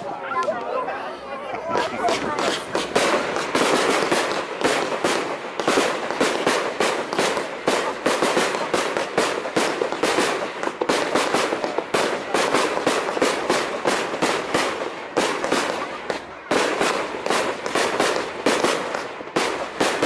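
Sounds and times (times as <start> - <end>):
fireworks barrage: 1.6 - 20.0.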